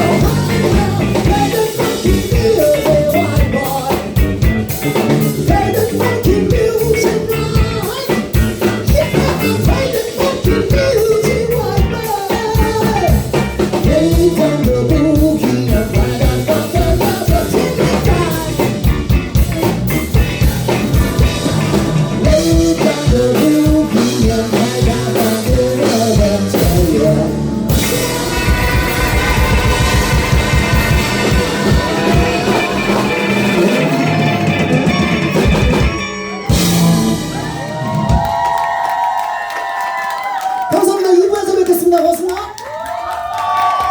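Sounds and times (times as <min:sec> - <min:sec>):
live funk-rock band playing: 0:00.0 - 0:38.9.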